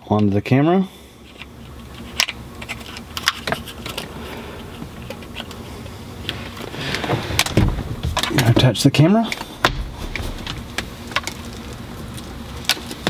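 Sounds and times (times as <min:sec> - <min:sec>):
low hum: 0:01.0 - 0:13.0.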